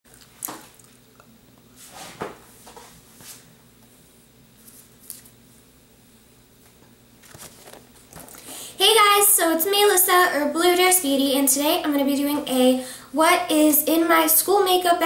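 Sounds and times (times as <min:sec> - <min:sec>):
faint low room hum: 0:00.1 - 0:15.0.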